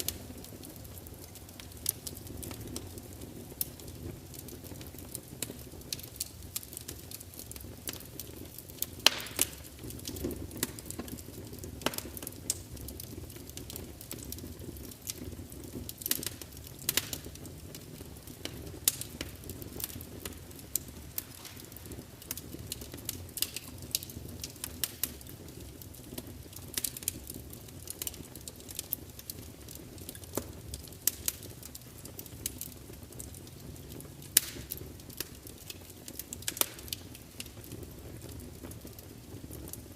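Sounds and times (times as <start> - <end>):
logs crackling and popping: 0.0 - 39.9
low steady fire noise: 0.0 - 39.9.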